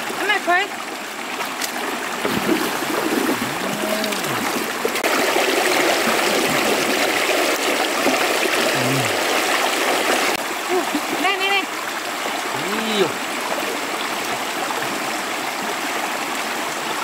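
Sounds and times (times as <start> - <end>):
stream water rushing and splashing: 0.0 - 17.0.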